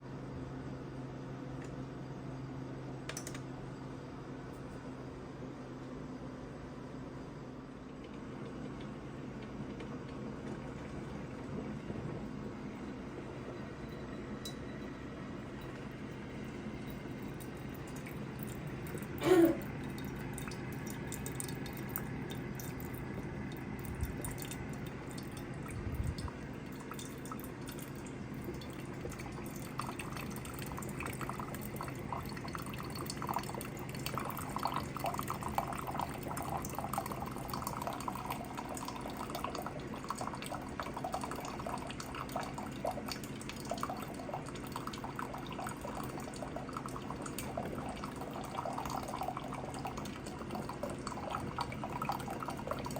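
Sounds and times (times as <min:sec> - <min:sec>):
steady low hum: 0:00.0 - 0:52.9
coffee maker dripping and gurgling: 0:06.5 - 0:52.9.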